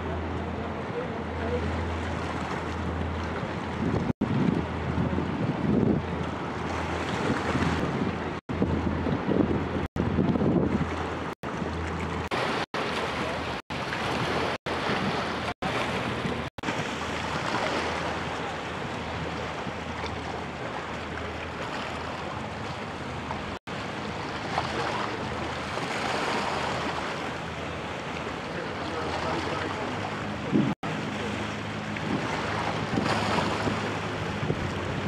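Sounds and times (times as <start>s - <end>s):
choppy river water: 0.0s - 35.0s
wind buffeting microphone: 1.8s - 27.9s, 29.5s - 30.8s, 31.6s - 35.0s.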